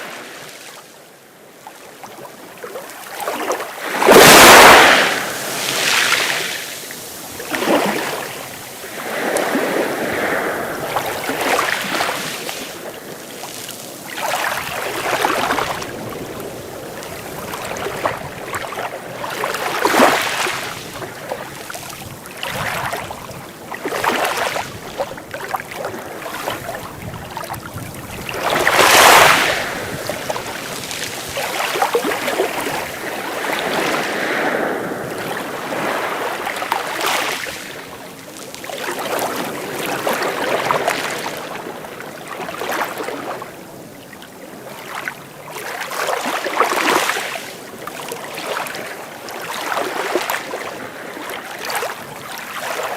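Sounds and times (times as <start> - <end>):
sea waves washing in: 0.0 - 52.9.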